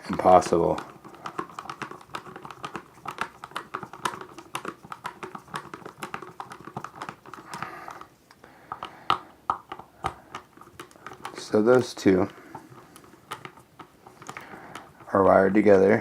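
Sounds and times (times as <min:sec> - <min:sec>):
electrical wire clicking and crinkling: 0:00.0 - 0:16.0.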